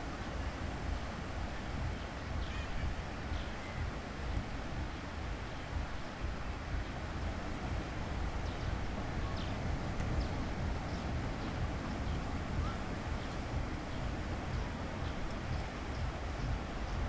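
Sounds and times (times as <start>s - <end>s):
faint distant voices: 0.0s - 17.0s
sea waves washing: 0.0s - 17.0s
wind rumbling on microphone: 0.0s - 17.0s.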